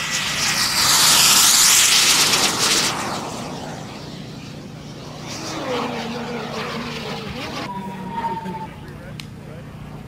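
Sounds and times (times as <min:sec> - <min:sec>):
model jet rushing past: 0:00.0 - 0:09.0
lower hum falling in pitch: 0:00.6 - 0:10.0.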